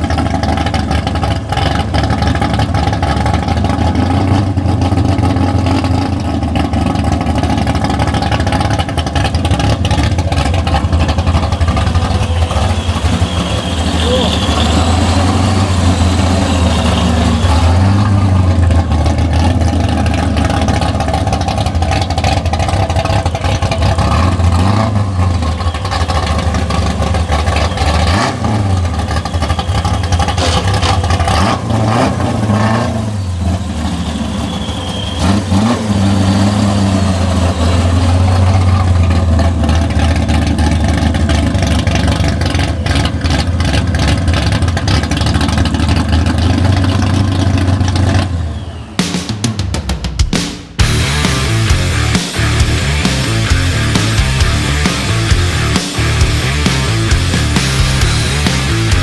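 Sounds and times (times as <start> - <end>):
car engines revving: 0.0 - 49.8, 50.7 - 59.0.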